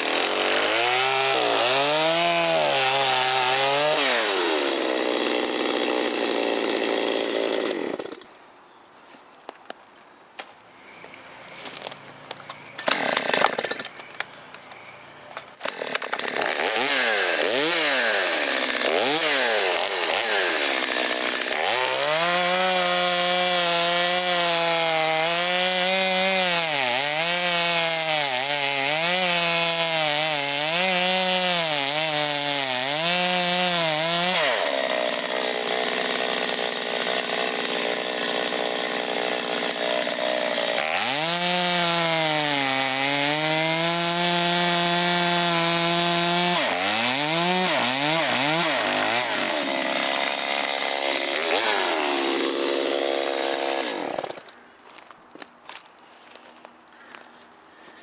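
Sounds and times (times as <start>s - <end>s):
chainsaw cutting log: 0.0s - 8.3s, 12.8s - 14.0s, 15.6s - 54.6s.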